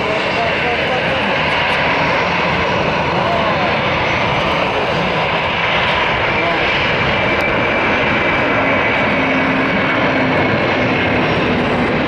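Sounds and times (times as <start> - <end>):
jet engines at takeoff thrust: 0.0 - 12.0.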